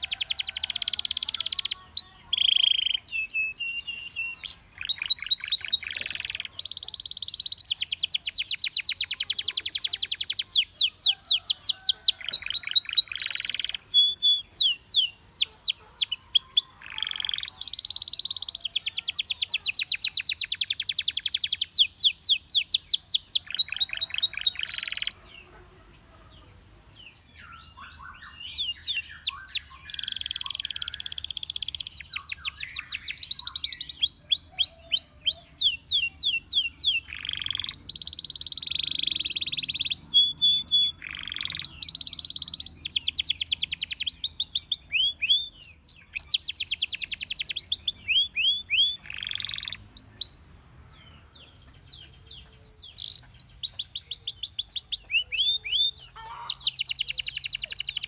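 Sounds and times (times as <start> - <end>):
canary singing: 0.0 - 50.4, 51.0 - 58.0.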